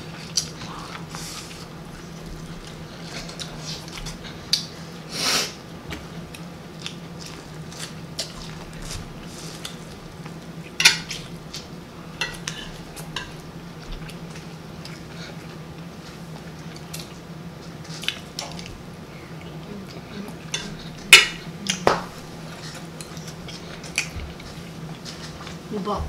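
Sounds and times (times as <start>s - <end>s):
chewing and smacking: 0.1s - 4.8s, 5.9s - 11.7s, 12.3s - 25.6s.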